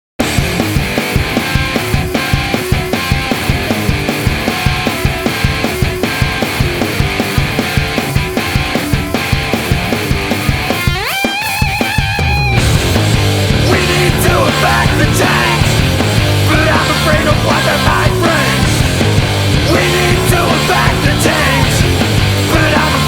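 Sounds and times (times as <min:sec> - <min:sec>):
fast drum beat: 0:00.2 - 0:23.0
rock guitar: 0:00.2 - 0:23.0.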